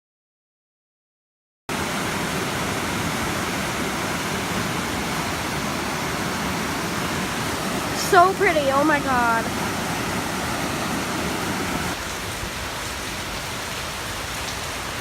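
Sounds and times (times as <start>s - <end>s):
waterfall rushing: 1.7s - 15.0s.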